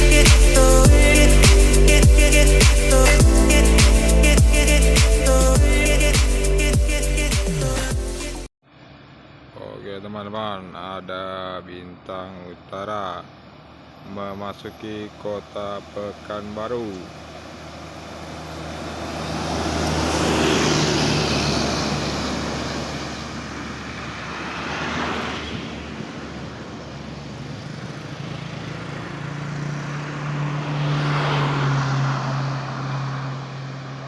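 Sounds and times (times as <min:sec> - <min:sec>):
buses passing: 0:00.0 - 0:34.0.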